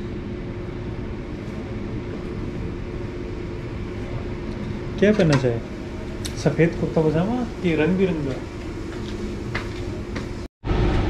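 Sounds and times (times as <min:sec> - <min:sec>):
ventilation fan humming: 0:00.0 - 0:11.0.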